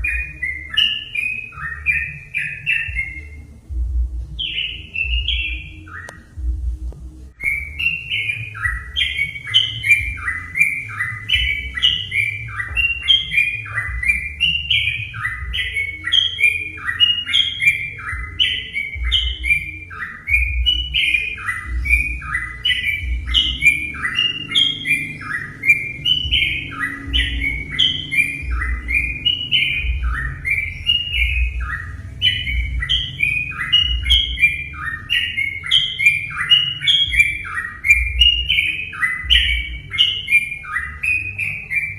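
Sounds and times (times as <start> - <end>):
bird singing bubbly phrases: 0.0 - 3.6, 4.4 - 6.5, 7.3 - 41.9.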